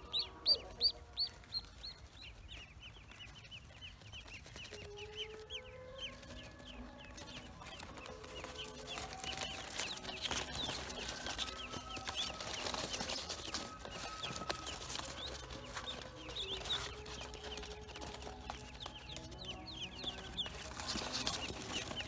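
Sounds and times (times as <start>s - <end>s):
ducklings peeping: 0.0s - 22.0s
rustling in straw: 0.3s - 22.0s.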